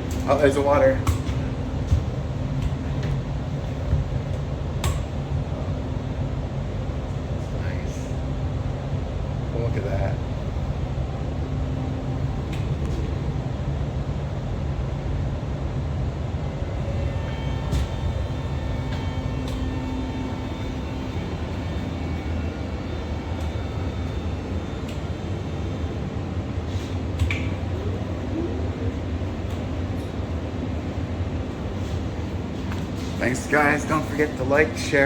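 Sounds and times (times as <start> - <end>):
faint hum: 0.0 - 35.0
train wheels rumbling on track: 0.0 - 35.0.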